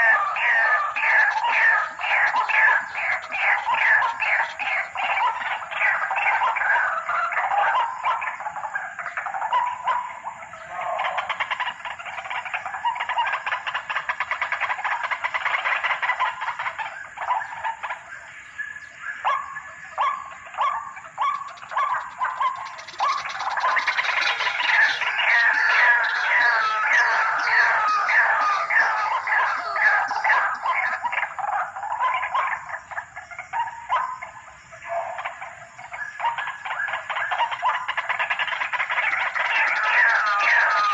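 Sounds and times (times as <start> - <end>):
waterhen calling: 0.0 - 40.9.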